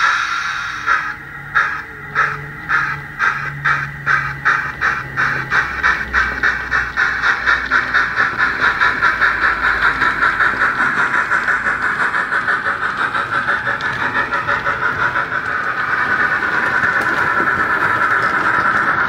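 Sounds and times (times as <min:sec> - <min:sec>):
model steam locomotive chuffs: 0:00.0 - 0:19.0.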